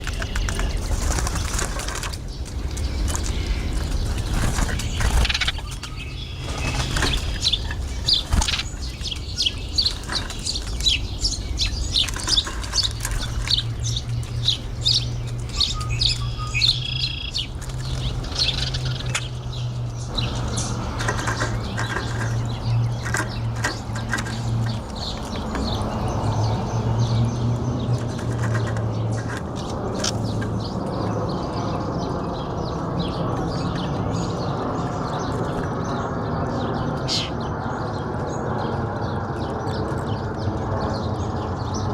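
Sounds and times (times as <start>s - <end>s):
wild birds chirping: 0.0s - 41.9s.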